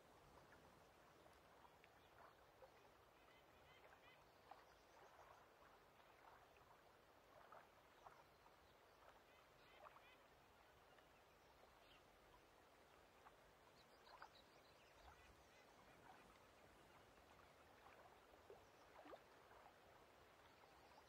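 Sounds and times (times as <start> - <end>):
soft water splashes: 0.0 - 21.0
water lapping gently: 0.0 - 21.0.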